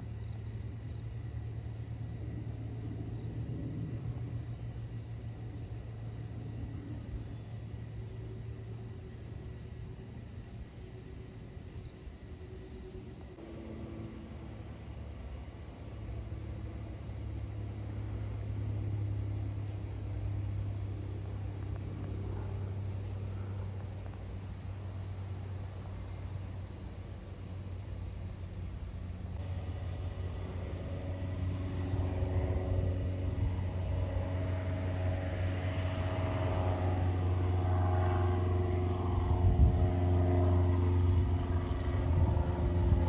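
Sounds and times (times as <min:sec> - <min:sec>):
distant jet aircraft: 0:00.0 - 0:43.0
insects chirping: 0:00.0 - 0:43.0.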